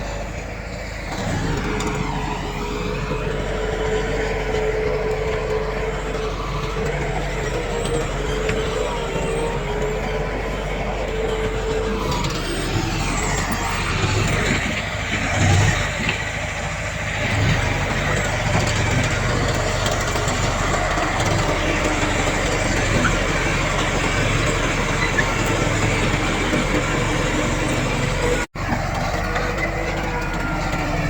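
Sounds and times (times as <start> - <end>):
heavy diesel machinery engines: 0.0 - 31.0.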